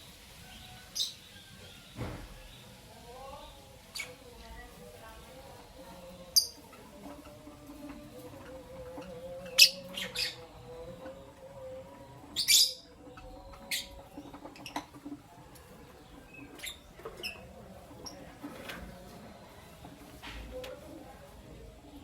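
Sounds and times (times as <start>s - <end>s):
lovebirds chirping: 0.0s - 19.9s.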